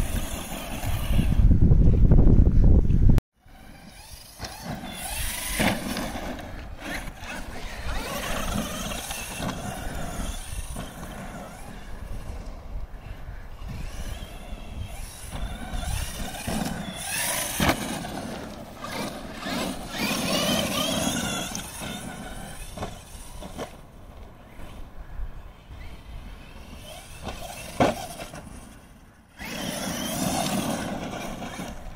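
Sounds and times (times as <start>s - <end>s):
electric motor whining: 0.0s - 1.9s, 3.4s - 25.0s, 25.6s - 31.9s.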